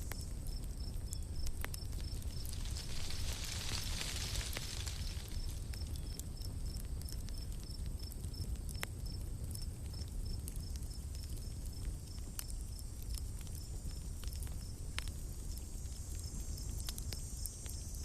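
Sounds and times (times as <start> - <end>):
campfire crackling: 0.0 - 18.0
insect chirping: 0.0 - 18.0.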